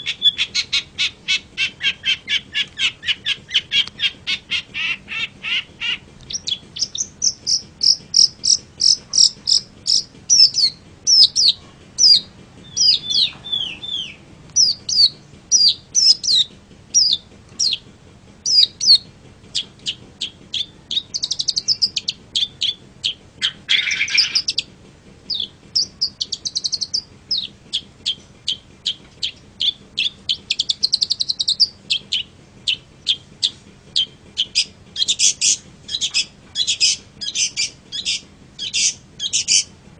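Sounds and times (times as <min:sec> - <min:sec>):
bird chirping: 0:00.0 - 0:24.7, 0:25.3 - 0:39.7
harsh scratchy bird calls: 0:00.0 - 0:39.7.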